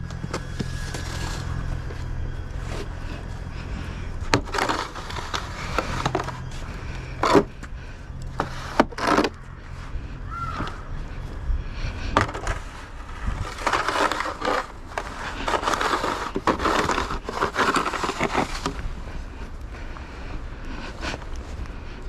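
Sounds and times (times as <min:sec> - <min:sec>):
low rumble: 0:00.0 - 0:22.0
snow crunching and scraping: 0:00.0 - 0:22.0.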